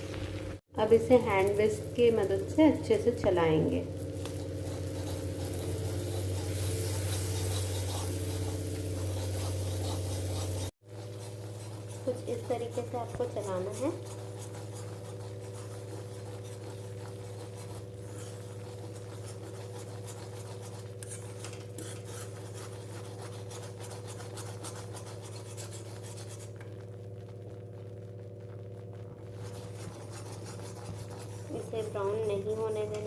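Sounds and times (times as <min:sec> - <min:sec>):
steady low hum: 0:00.0 - 0:33.0
whisk scraping against a pan: 0:00.8 - 0:27.7, 0:28.9 - 0:33.0.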